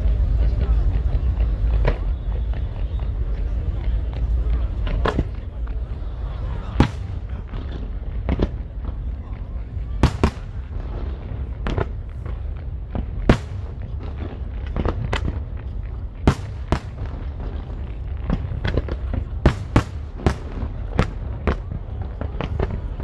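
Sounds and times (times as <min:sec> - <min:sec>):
fireworks bangs: 0:00.0 - 0:23.0
fireworks crackles: 0:00.0 - 0:23.0.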